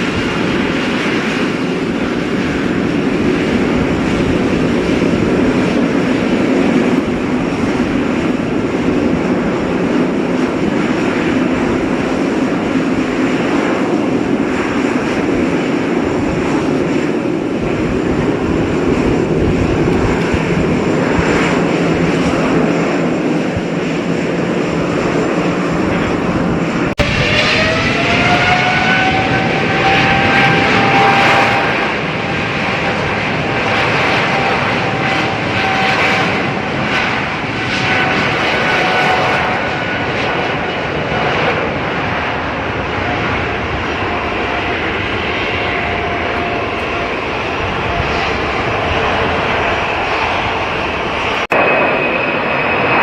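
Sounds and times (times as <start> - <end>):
aircraft engine whine: 0.0 - 53.0
jet airliner engines roaring: 0.0 - 53.0.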